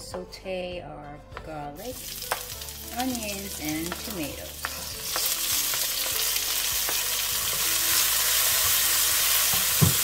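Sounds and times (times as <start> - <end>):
food sizzling in hot oil: 1.8 - 10.0.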